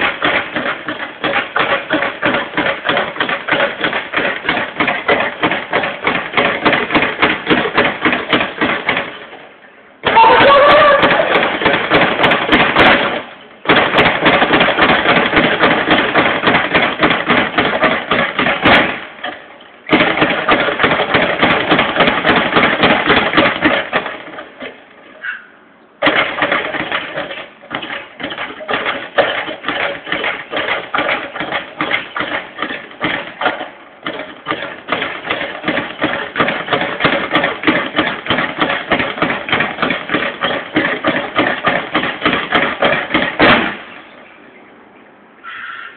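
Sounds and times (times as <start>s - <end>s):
speed bag rattling: 0.0s - 25.1s, 26.0s - 44.0s.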